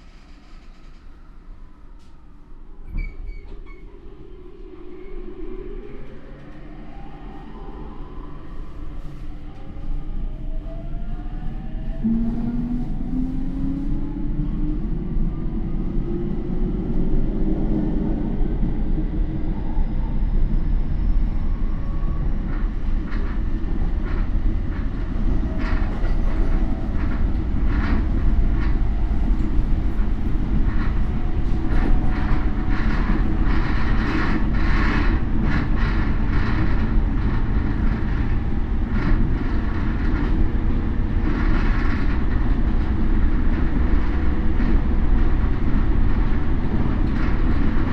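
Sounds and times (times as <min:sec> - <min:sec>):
train running rumble: 0:00.0 - 0:47.9.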